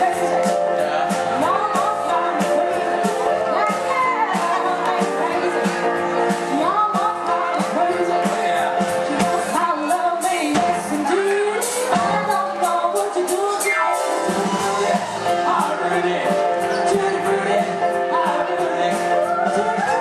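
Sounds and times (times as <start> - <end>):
drum beat: 0.0 - 20.0
live rock band: 0.0 - 20.0
sung vocals: 0.0 - 20.0.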